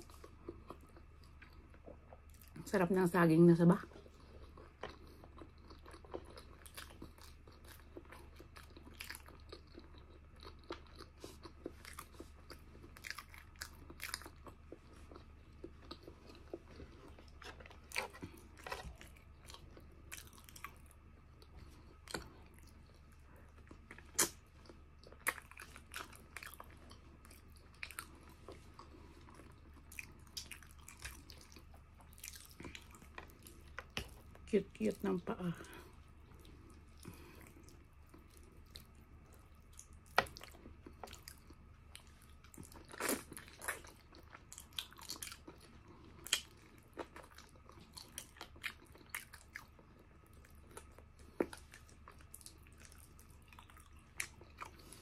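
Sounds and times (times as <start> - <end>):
close-up chewing: 0.0 - 2.7, 3.8 - 55.0.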